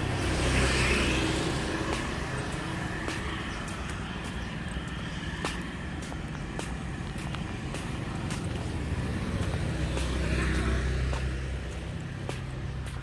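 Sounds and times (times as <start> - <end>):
distant traffic hum: 0.0 - 13.0
vehicle passing by: 0.0 - 13.0.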